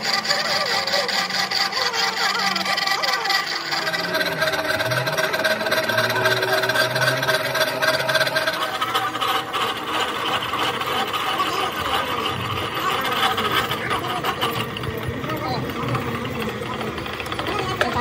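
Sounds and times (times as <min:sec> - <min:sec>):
workshop machine running: 0:00.0 - 0:18.0.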